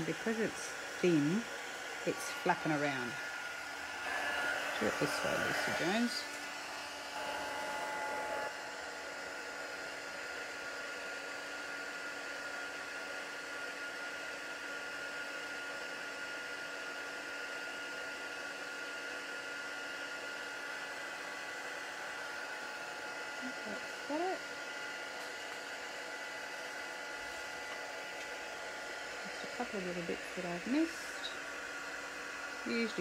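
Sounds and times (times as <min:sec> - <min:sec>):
heat gun blowing: 0:00.0 - 0:15.6, 0:19.0 - 0:33.0.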